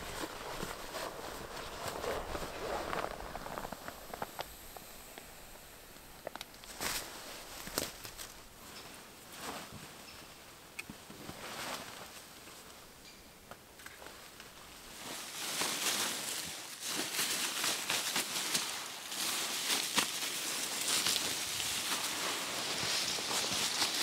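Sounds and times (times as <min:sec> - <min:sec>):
nylon tarp rustling and crinkling: 0:00.0 - 0:10.0, 0:11.0 - 0:12.8, 0:14.0 - 0:24.0.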